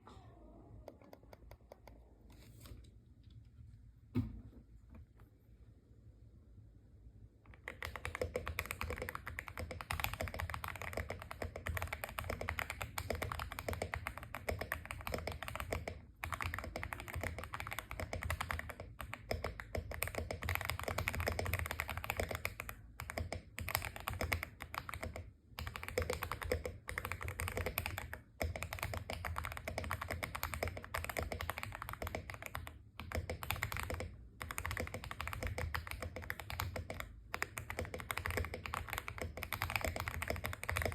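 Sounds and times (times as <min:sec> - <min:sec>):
mechanical keyboard typing: 0:07.5 - 0:40.9.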